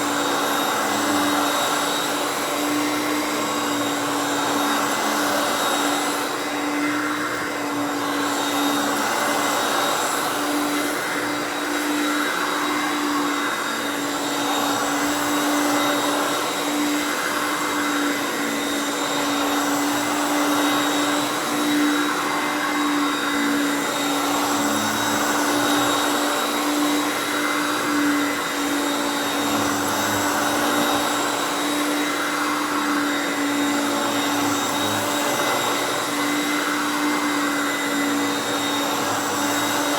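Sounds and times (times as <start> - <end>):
vacuum cleaner motor hum: 0.0 - 39.9.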